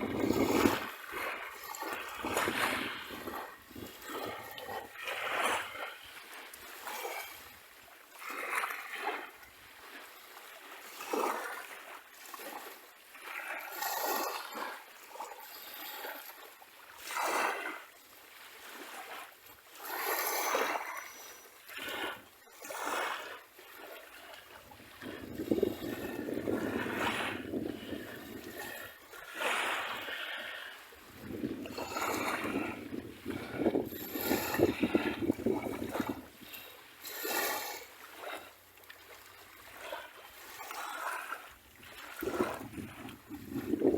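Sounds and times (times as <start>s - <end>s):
small waves washing onto beach: 0.0s - 43.9s.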